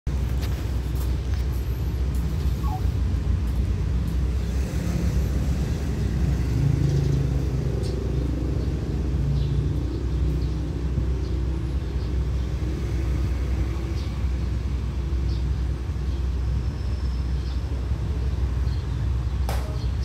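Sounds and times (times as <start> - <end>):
engine humming with low rumble: 0.1 - 20.0.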